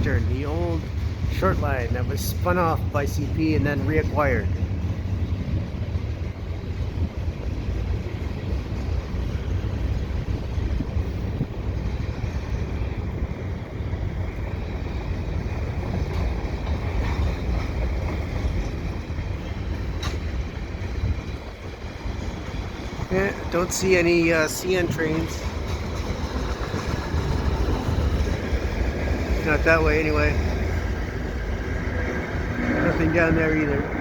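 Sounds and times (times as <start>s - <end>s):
freight train rumbling past: 0.0s - 34.0s
wind buffeting microphone: 0.0s - 34.0s.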